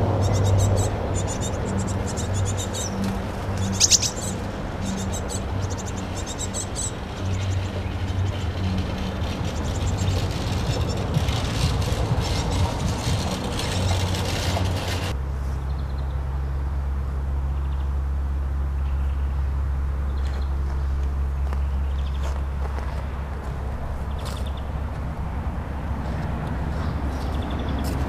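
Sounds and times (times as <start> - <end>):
birds chirping: 0.0 - 16.7, 18.6 - 23.1, 23.8 - 24.9, 25.9 - 28.0
low hum: 0.0 - 27.7
traffic rumble: 0.0 - 28.0.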